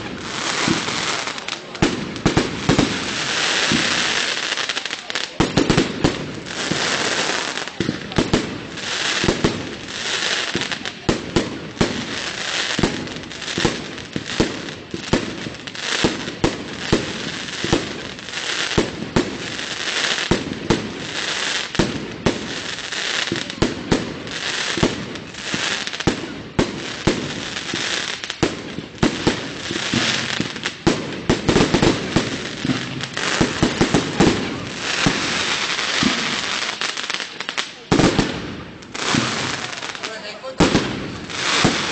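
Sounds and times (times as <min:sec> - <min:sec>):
firework bangs: 0:00.0 - 0:41.9
firework crackle: 0:00.0 - 0:41.9.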